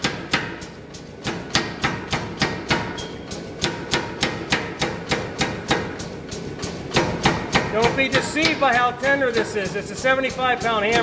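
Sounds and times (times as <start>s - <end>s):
power hammer striking hot iron: 0.0s - 11.0s.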